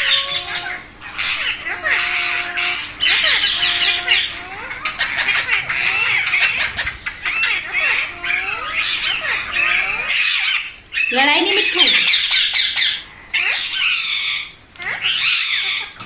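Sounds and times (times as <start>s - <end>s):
parakeets squawking and chattering: 0.0s - 16.0s.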